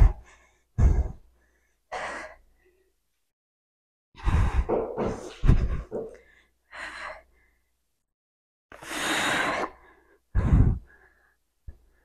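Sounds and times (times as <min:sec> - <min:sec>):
woman breathing heavily: 0:00.0 - 0:03.0, 0:04.2 - 0:07.8, 0:08.7 - 0:12.0.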